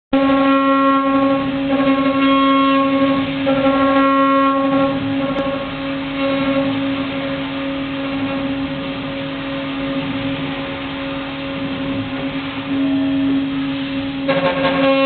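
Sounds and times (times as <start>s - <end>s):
milling machine spindle whine: 0.2s - 15.0s.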